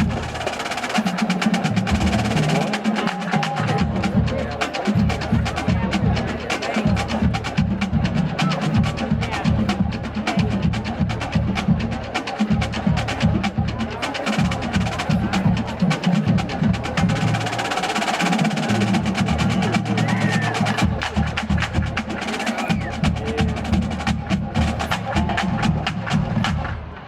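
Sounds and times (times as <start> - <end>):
pitched bass drums: 0.0 - 17.6, 18.5 - 27.0.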